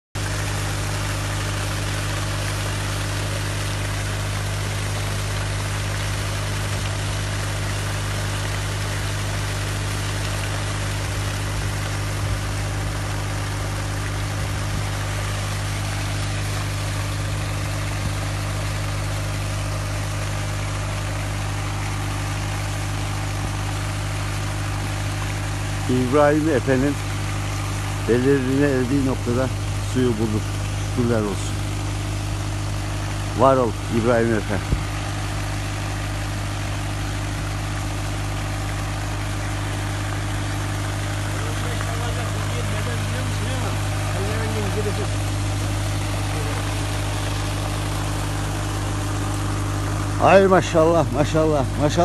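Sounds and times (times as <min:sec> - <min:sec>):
drilling rig engine running: 0:00.2 - 0:52.0
water gushing and splashing: 0:00.2 - 0:52.0.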